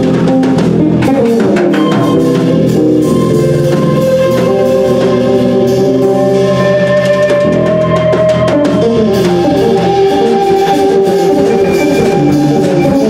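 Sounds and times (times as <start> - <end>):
drum kit keeping time: 0.0 - 13.0
live band playing: 0.0 - 13.0.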